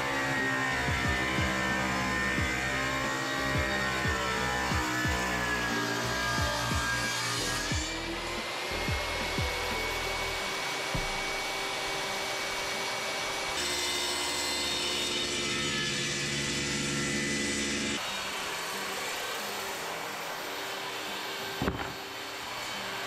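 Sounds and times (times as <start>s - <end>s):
table saw cutting wood: 0.0s - 23.0s.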